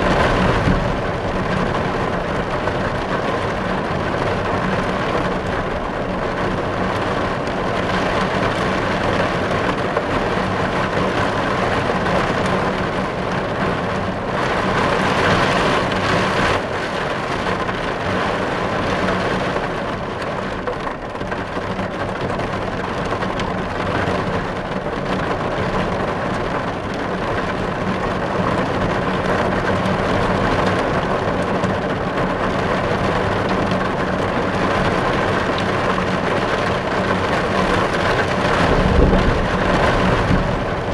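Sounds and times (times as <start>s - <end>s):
heavy rain on car glass: 0.0s - 40.9s.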